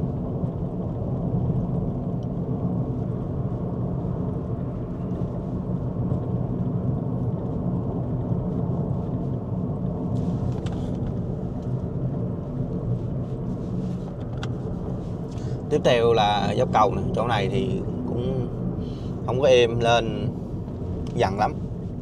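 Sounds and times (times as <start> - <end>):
road and tyre rumble in car: 0.0 - 22.0.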